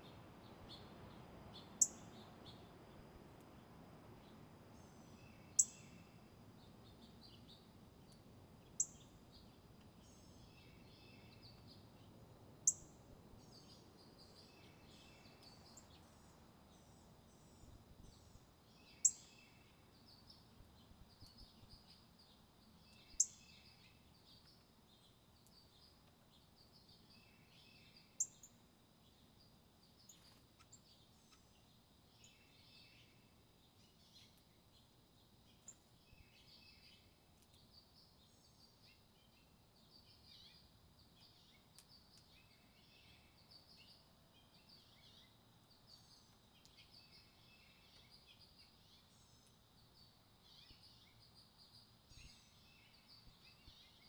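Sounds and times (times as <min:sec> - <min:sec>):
soft bird chirps and twitters: 0:00.0 - 0:54.0.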